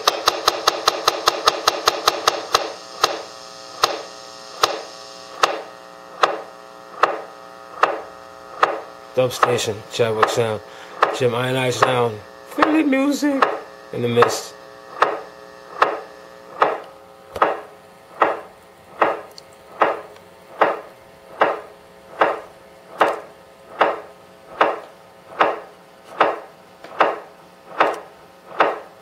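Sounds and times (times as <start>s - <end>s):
steady hum of held tones: 0.0s - 29.0s.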